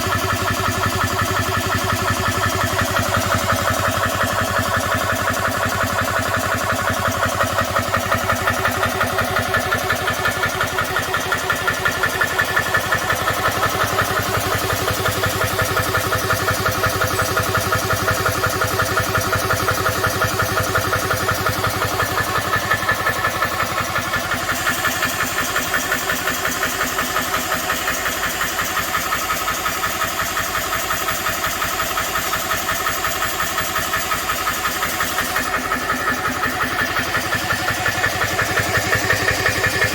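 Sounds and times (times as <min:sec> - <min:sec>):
air compressor pumping: 0:00.0 - 0:39.9.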